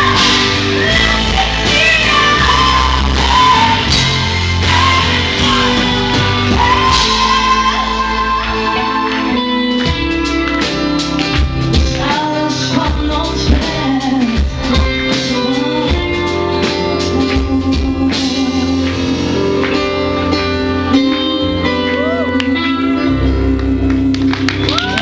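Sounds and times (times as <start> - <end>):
woman singing: 0.0 - 10.3, 11.7 - 19.2, 20.8 - 25.0
live pop-rock band: 0.0 - 25.0.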